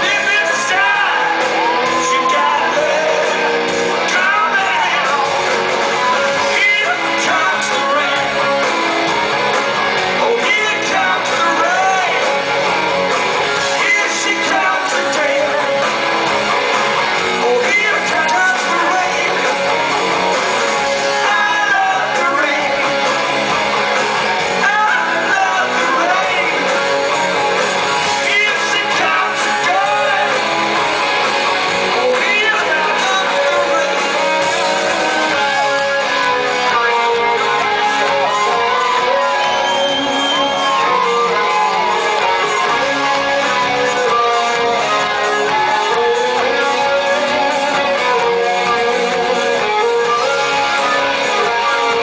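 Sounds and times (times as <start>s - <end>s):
lead singer vocals: 0.0s - 16.1s, 17.1s - 23.5s, 24.4s - 52.0s
live rock band: 0.0s - 52.0s.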